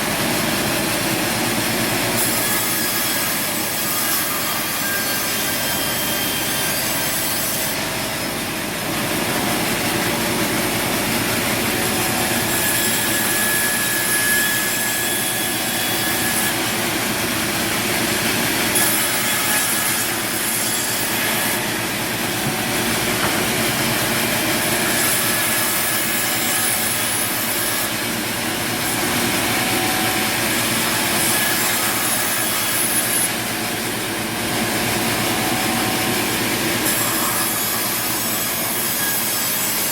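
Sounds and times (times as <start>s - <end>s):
saw cutting through wood: 0.0s - 39.9s.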